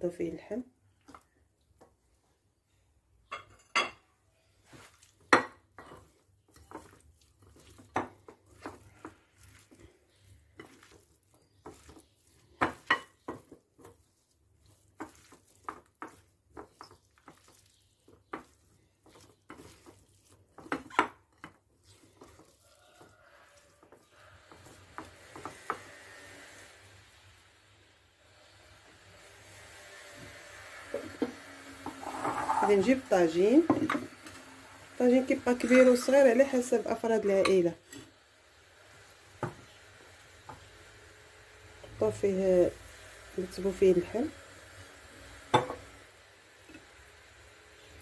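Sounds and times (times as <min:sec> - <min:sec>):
hands mixing meat in a bowl: 0:04.4 - 0:37.8, 0:38.9 - 0:48.0.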